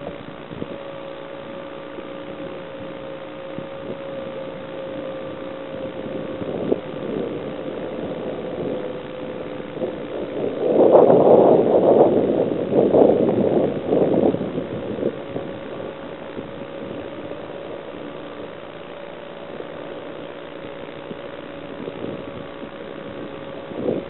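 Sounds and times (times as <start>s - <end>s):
model aircraft motor hum: 0.0s - 24.0s
wind rush on microphone: 0.0s - 24.0s.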